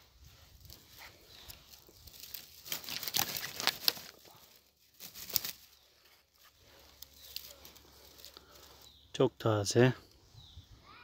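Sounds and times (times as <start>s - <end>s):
dry grass rustling and crackling: 0.0s - 9.6s.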